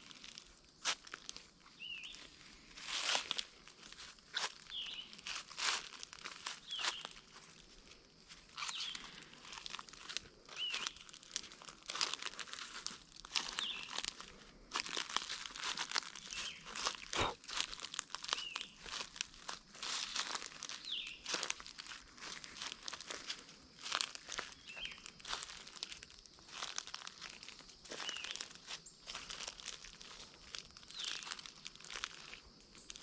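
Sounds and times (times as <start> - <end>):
footsteps on dry leaves: 0.0 - 33.0.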